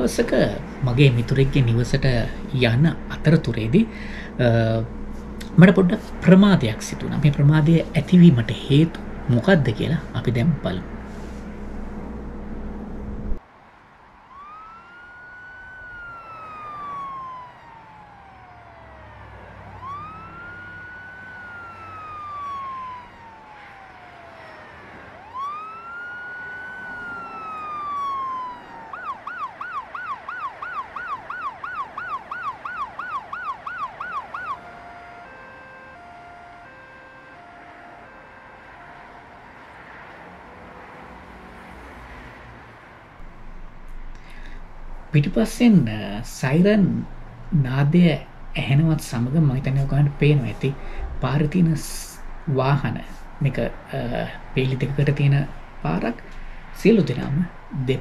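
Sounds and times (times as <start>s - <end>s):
ambulance siren: 0.0s - 42.9s, 45.1s - 58.0s.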